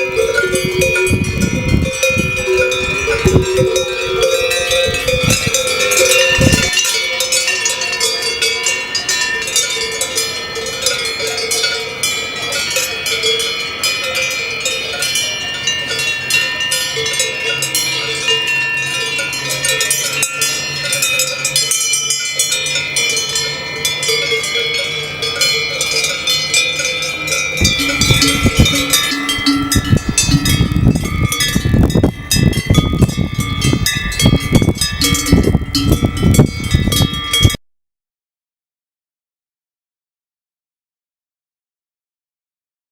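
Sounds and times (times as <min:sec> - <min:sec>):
cowbells clanking: 0:00.0 - 0:37.6.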